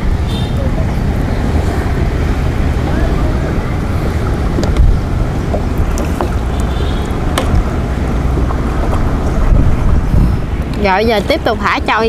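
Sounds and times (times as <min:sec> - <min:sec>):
boat engine rumble: 0:00.0 - 0:12.0
wind buffeting microphone: 0:00.0 - 0:12.0.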